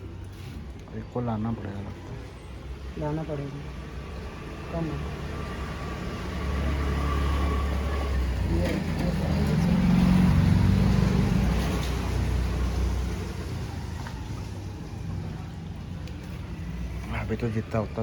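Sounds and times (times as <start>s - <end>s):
vehicle engine droning: 2.3s - 18.0s.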